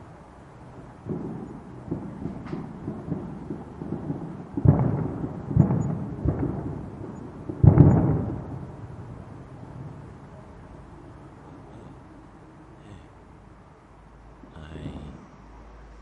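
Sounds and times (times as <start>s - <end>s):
distant fireworks booming: 0.0s - 13.4s.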